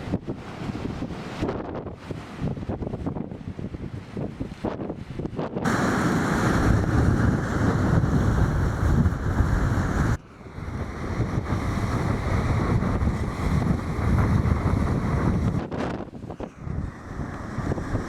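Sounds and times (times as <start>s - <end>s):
waves washing on shore: 0.0s - 18.0s
wind buffeting microphone: 0.0s - 18.0s.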